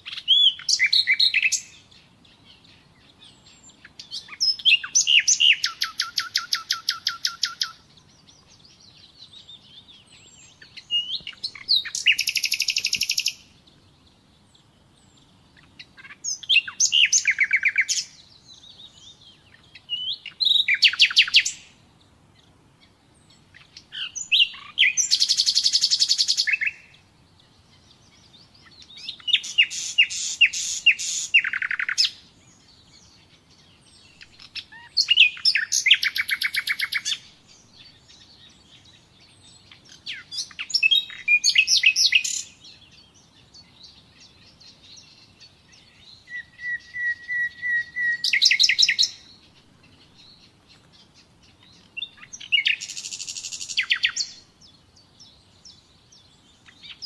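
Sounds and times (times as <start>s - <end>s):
nightingale singing trills: 0.0s - 57.0s.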